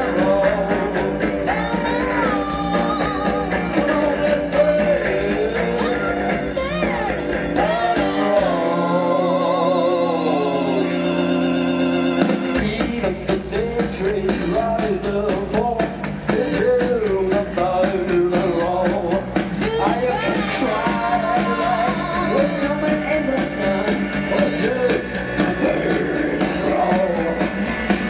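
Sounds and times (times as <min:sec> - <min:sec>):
person singing: 0:00.0 - 0:27.7
rock band playing: 0:00.0 - 0:28.0.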